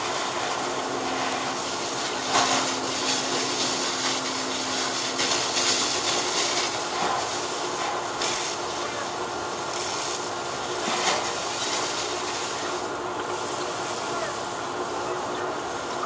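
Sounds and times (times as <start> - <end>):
fire hoses spraying water: 0.0 - 16.0.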